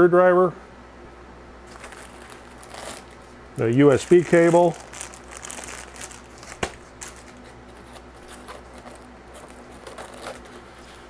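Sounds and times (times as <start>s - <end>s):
handling parts in cardboard box: 1.7s - 11.0s
plastic bag rustling: 1.7s - 11.0s.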